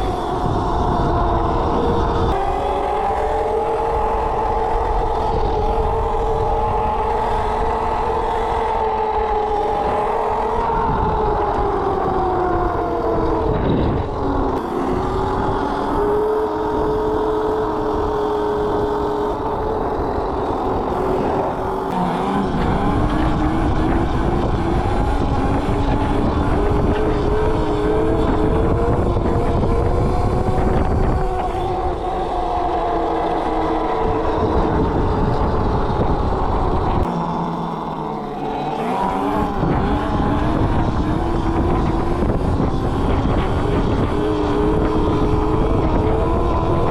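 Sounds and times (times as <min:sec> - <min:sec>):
electric motor whining: 0:00.0 - 0:46.9
wind rumble on microphone: 0:00.0 - 0:46.9.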